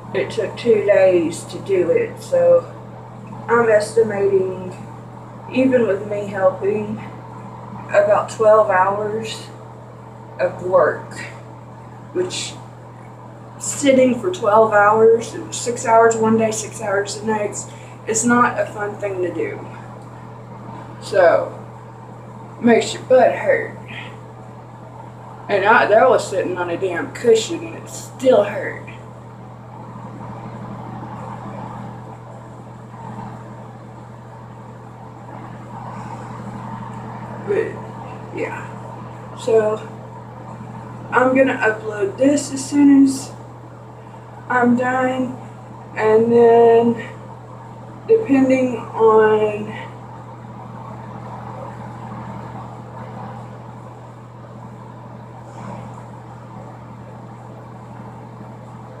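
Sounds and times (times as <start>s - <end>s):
low machinery hum: 0.0s - 59.0s.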